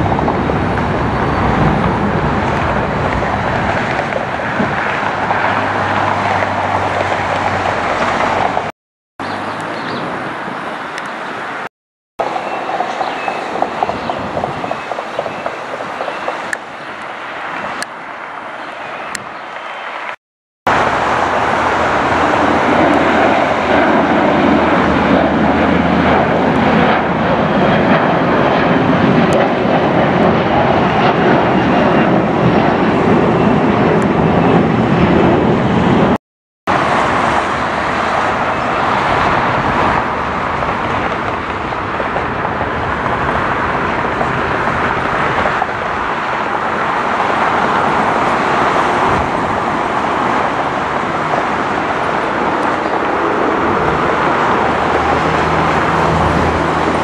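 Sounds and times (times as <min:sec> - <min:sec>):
jet airliner engine noise: 0:00.0 - 0:57.0.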